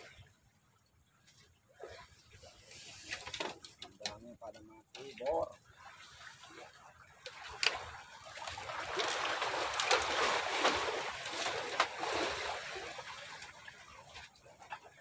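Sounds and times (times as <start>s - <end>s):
sea water splashing: 0.0s - 0.4s, 1.7s - 15.0s.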